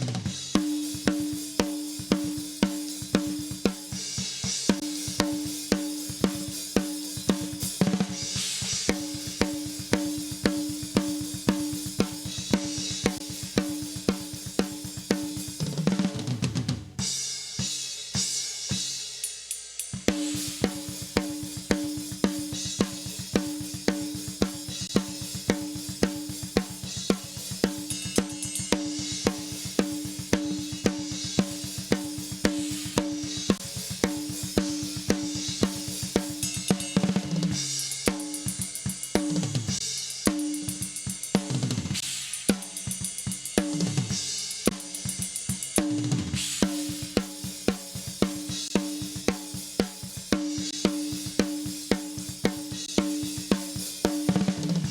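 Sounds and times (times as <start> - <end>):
cymbals and hi-hat: 0.0 - 54.9.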